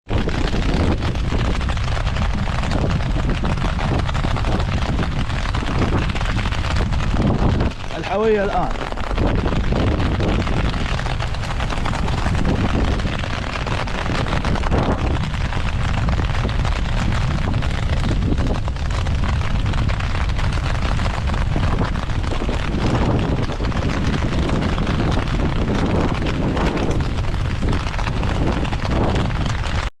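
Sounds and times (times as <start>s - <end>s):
wind and rain rushing: 0.0s - 29.9s
wind buffeting microphone: 0.0s - 29.9s.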